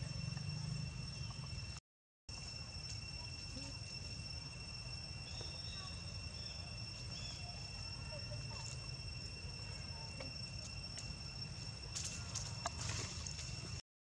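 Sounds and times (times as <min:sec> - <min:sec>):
insect drone: 0:00.0 - 0:13.8.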